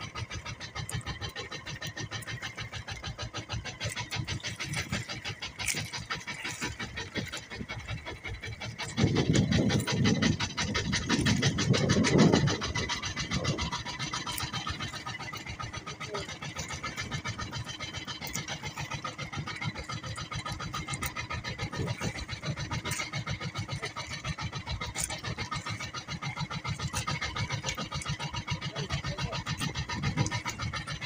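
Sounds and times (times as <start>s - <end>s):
low rumble: 0.0s - 31.0s
small boat engine puttering: 0.0s - 31.0s.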